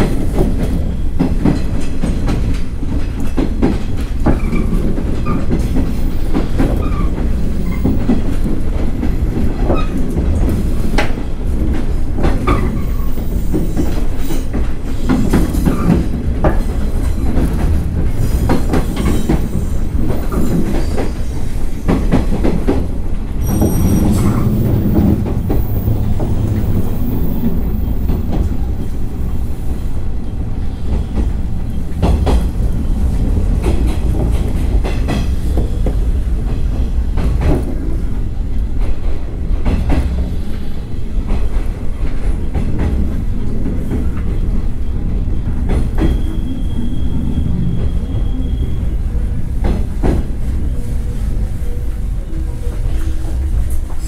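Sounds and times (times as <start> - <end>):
rail-joint clacks: 0.0 - 54.0
train wheels rumbling: 0.0 - 54.0.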